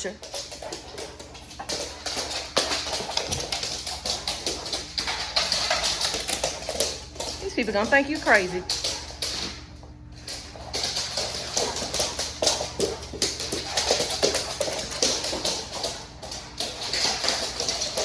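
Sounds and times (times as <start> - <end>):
dog claws clicking on floor: 0.0 - 18.0.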